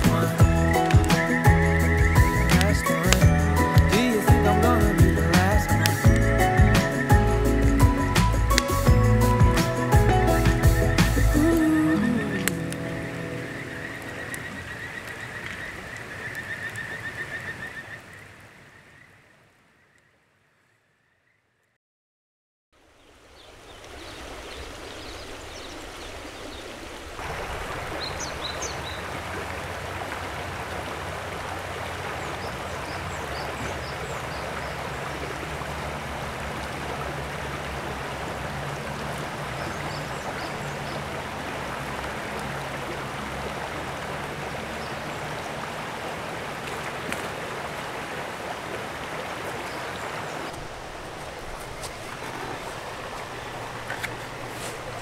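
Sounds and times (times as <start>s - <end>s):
creek flowing over rocks: 0.0s - 18.7s, 22.8s - 55.0s.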